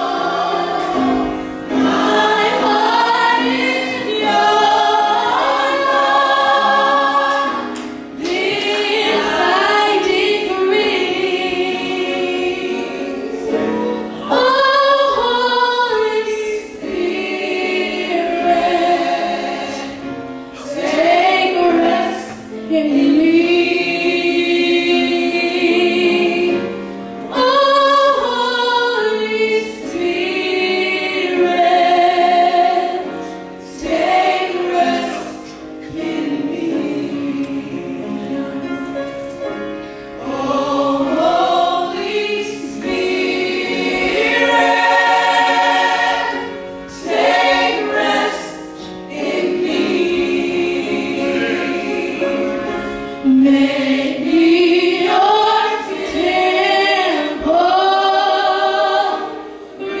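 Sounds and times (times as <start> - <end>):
choir singing gospel song: 0.0 - 60.0.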